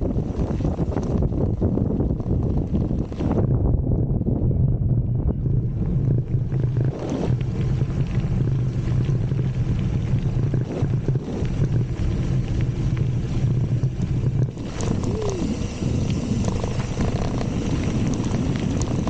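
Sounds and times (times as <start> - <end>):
tyres crackling on loose dirt: 0.0 - 3.6, 5.4 - 19.0
wind buffeting microphone: 0.0 - 19.0.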